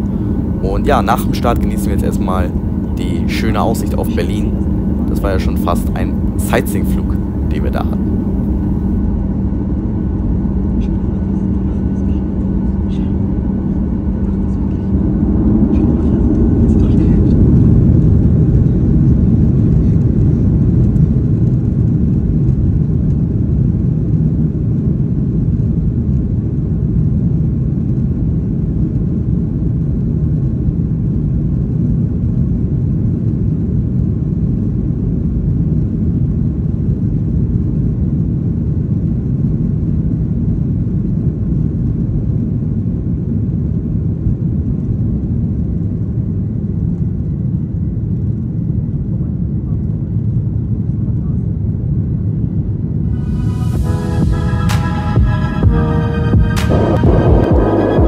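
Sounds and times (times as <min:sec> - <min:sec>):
jet engines rumbling at takeoff: 0:00.0 - 0:58.0.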